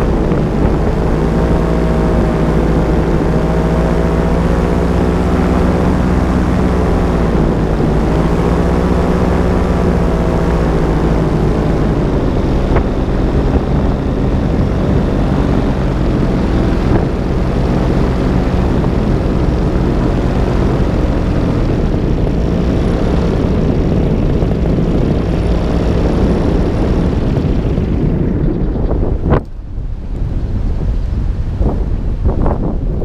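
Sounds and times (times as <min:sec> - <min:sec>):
propeller aircraft engine running: 0:00.0 - 0:33.0.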